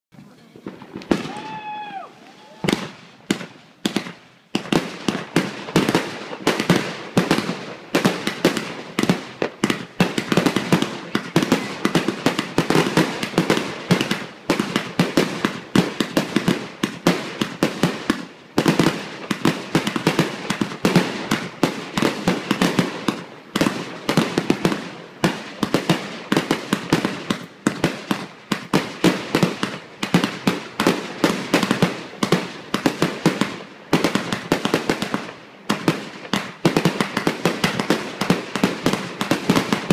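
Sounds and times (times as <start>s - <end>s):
fireworks bursting: 0.1s - 39.9s.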